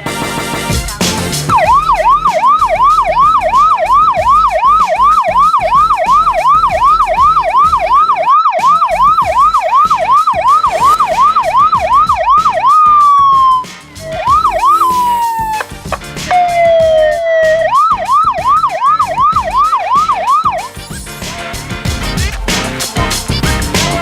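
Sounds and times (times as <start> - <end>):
fire truck siren yelping: 1.5 - 21.0.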